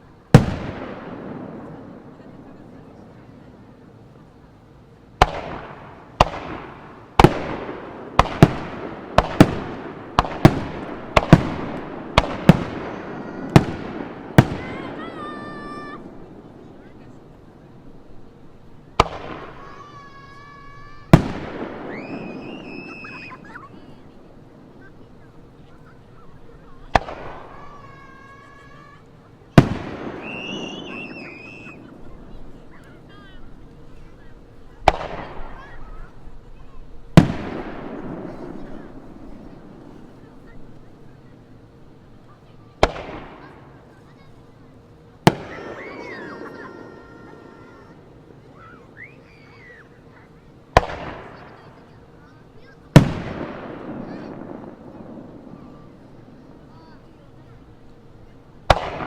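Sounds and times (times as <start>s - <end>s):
fireworks bangs with rolling echo: 0.0s - 4.2s, 5.2s - 41.2s, 42.8s - 44.3s, 45.2s - 48.4s, 50.7s - 52.0s, 52.6s - 57.4s, 58.2s - 59.0s.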